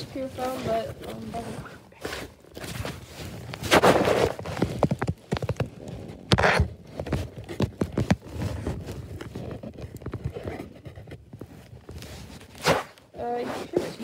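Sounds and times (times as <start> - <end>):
rubbing against foam: 0.0 - 5.1, 6.3 - 14.0.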